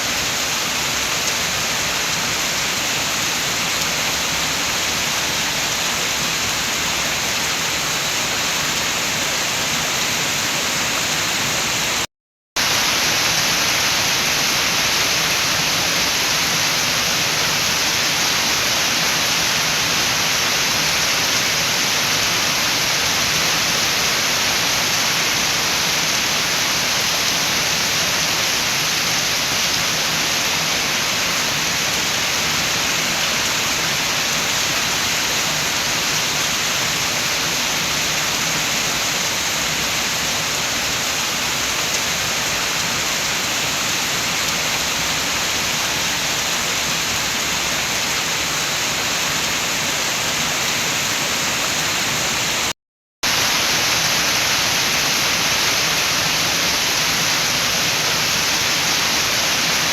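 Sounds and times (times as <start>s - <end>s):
steady rain with wind: 0.0s - 59.9s.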